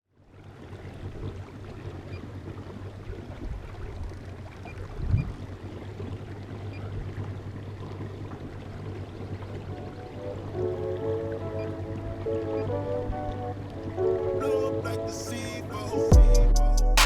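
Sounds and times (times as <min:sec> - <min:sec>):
water lapping around kayak: 0:00.1 - 0:16.1.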